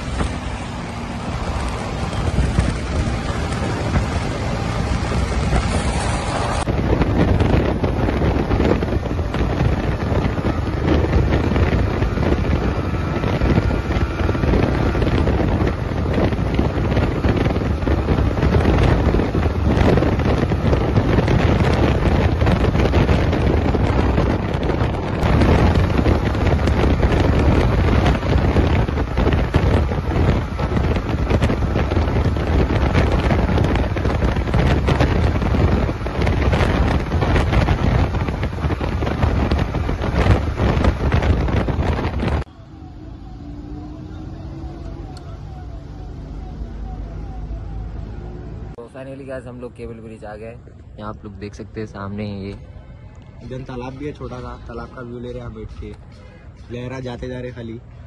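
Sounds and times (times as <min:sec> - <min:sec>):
motorcycle engine running: 0:00.0 - 0:47.8
wind rushing over microphone: 0:00.0 - 0:58.0.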